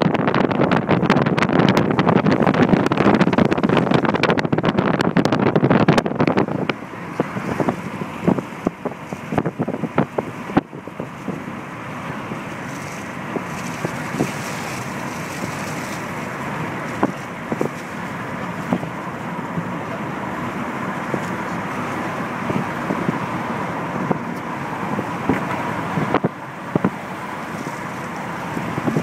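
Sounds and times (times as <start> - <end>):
car road noise rushing: 0.0 - 29.0
wind buffeting microphone: 0.0 - 29.0.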